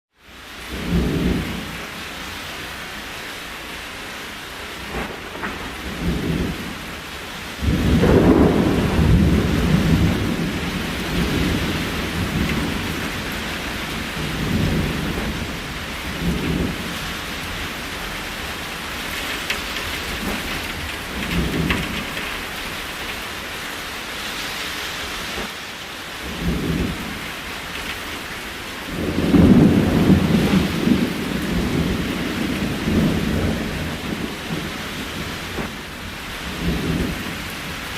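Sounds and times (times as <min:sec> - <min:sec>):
rain hissing on cabin: 0:00.2 - 0:37.9.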